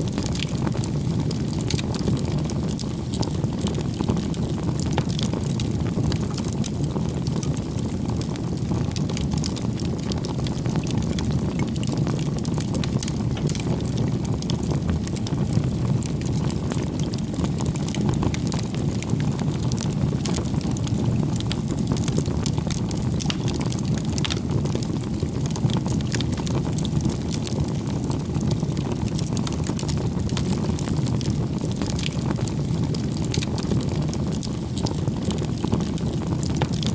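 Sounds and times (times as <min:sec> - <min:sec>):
wood crackling and popping: 0:00.0 - 0:36.9
fire rushing: 0:00.1 - 0:36.9.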